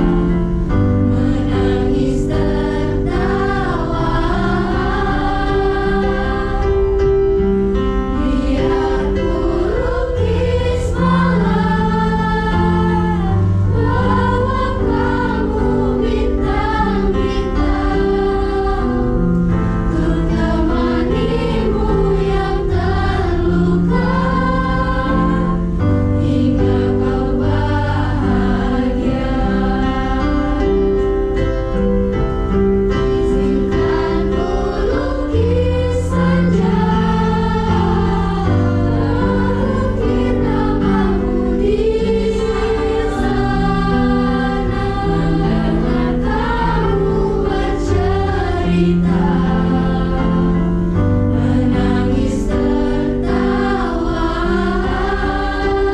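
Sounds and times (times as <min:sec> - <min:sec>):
electronic keyboard: 0:00.0 - 0:55.9
youth choir singing: 0:00.0 - 0:55.9.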